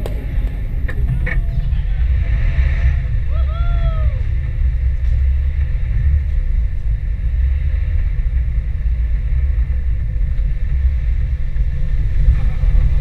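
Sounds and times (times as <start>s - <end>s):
off-road vehicle engine rumble: 0.0s - 13.0s.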